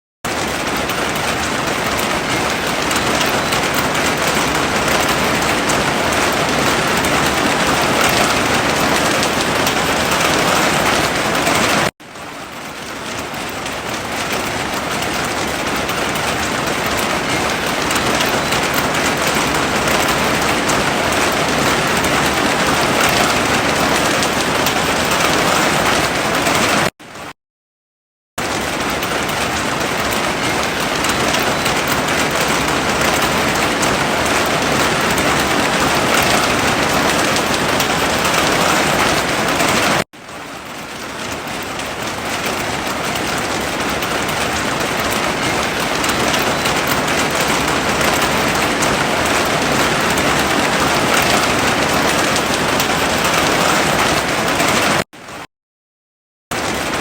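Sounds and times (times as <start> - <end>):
heavy rain falling: 0.3 - 26.9, 28.4 - 55.4, 56.5 - 57.0.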